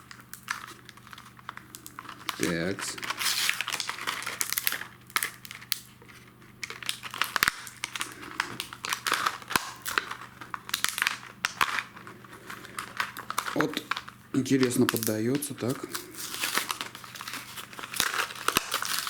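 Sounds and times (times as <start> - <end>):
packaging crinkling: 0.0 - 19.0.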